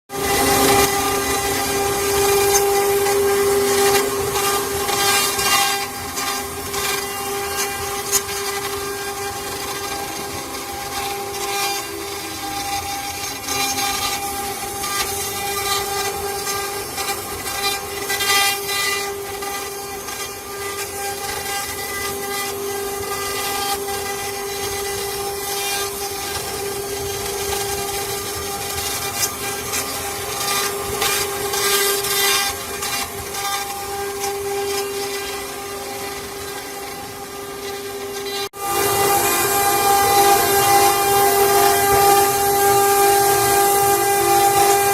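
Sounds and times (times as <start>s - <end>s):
cutter cutting through wood: 0.1s - 44.9s
wood router spindle whine: 0.1s - 44.9s.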